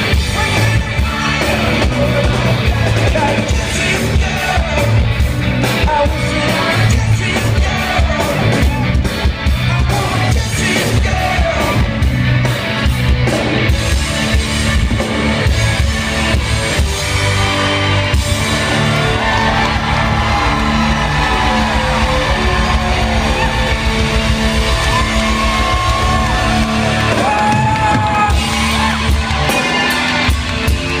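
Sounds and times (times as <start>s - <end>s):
live rock band playing loud: 0.0s - 31.0s.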